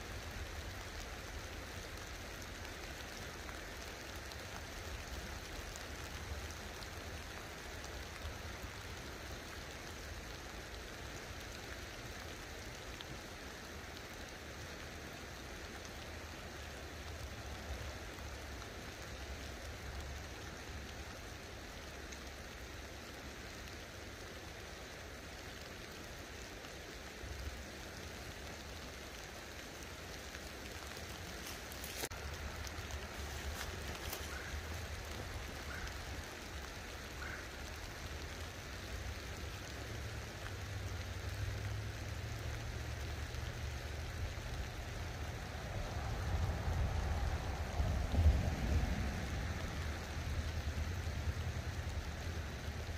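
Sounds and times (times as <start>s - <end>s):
light rain hissing: 0.0s - 52.9s.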